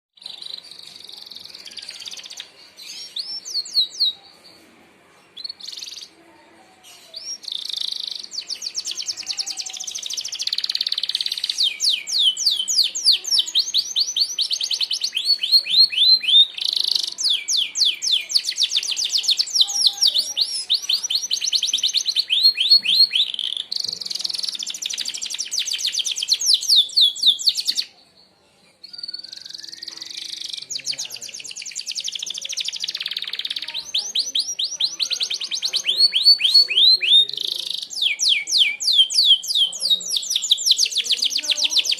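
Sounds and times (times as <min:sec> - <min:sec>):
canary singing trills: 0:00.2 - 0:04.6, 0:05.3 - 0:06.2, 0:06.8 - 0:41.9.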